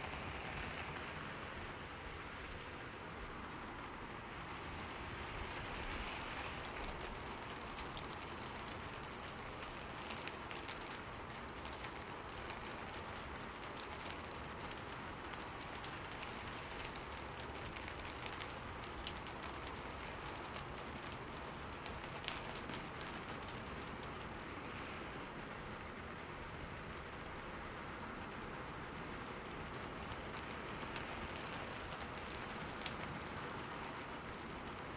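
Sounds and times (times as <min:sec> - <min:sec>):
raindrops tapping on leaves: 0:00.0 - 0:34.9
steady rainfall: 0:00.0 - 0:34.9.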